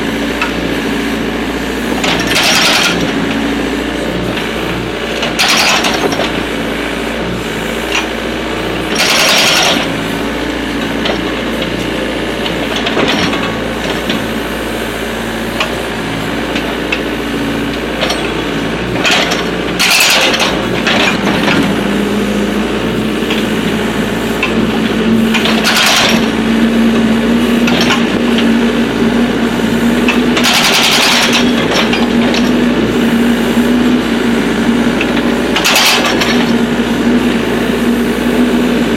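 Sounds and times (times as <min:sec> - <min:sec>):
excavator diesel engine running: 0:00.0 - 0:38.9
hydraulic breaker hammering: 0:00.0 - 0:38.9.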